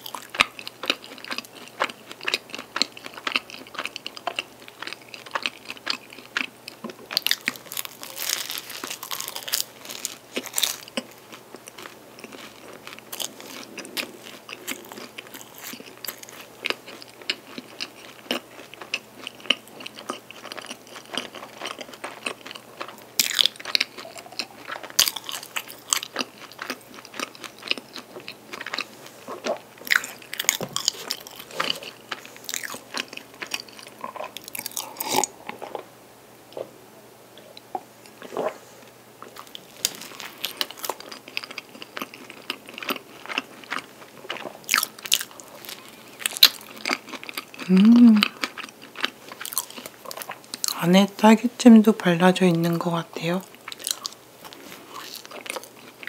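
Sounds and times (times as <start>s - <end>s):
chewing cake with mouth smacks: 0.0s - 35.8s, 39.2s - 50.8s, 53.5s - 56.0s.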